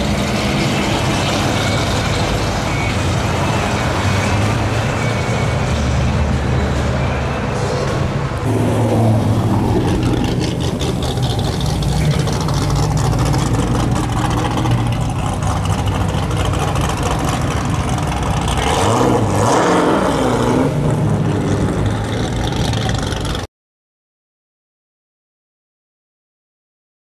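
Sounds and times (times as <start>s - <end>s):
car engine rumbling driving by: 0.0s - 23.5s.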